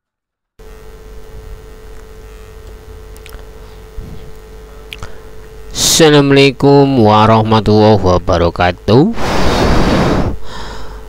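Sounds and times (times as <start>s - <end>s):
steady hum: 0.6s - 11.0s.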